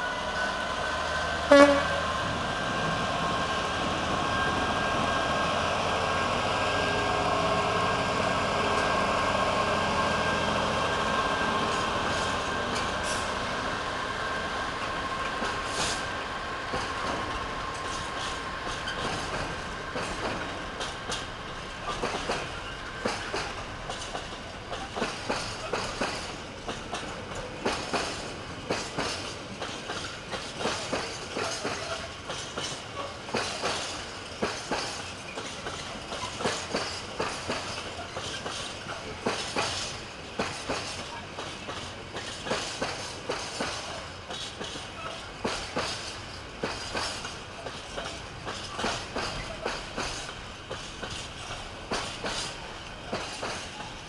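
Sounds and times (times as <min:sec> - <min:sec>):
freight train rumble: 0:00.0 - 0:54.0
train wheels clacking over track: 0:00.0 - 0:54.0.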